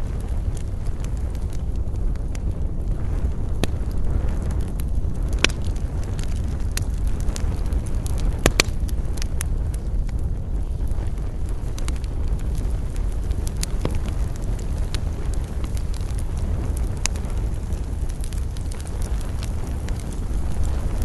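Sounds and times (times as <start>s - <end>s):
fire crackles and pops: 0.0s - 21.0s
wood fire rumbling: 0.0s - 21.0s.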